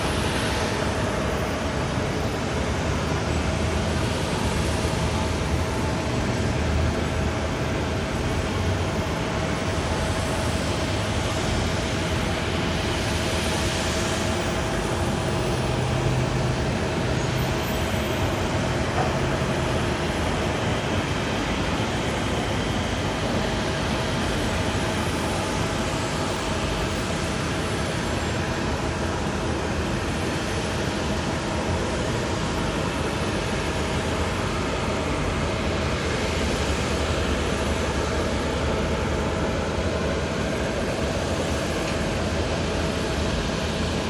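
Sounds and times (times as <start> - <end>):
faint constant whine: 0.0 - 44.0.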